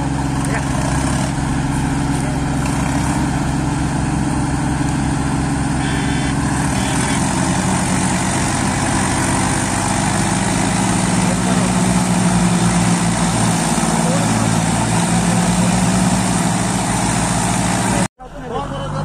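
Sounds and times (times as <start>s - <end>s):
diesel tractor engines under load: 0.0s - 19.0s.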